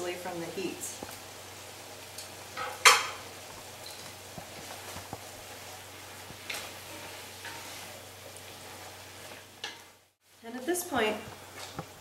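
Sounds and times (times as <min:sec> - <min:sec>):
curry sizzling in a pot: 0:00.0 - 0:12.0.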